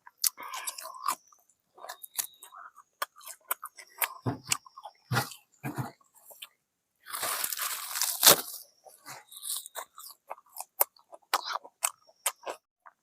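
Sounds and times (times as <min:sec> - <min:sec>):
crunching fried chicken: 0:00.0 - 0:05.5, 0:06.2 - 0:13.0.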